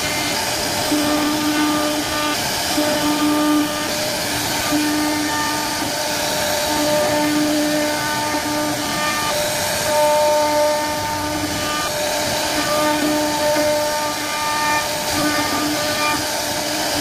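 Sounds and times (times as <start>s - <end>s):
cutter hissing in wood: 0.0s - 17.0s
router spindle whine: 0.0s - 17.0s.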